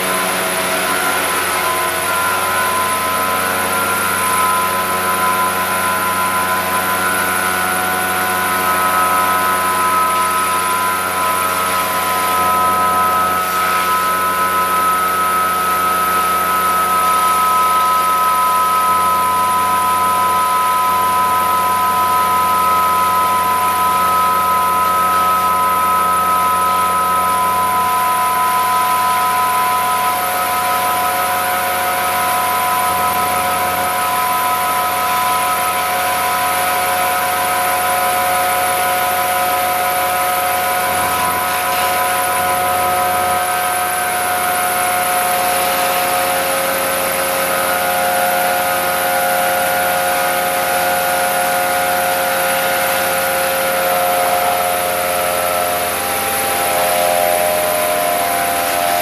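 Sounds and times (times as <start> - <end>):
high pump whine: 0.0 - 59.0
pump drone: 0.0 - 59.0.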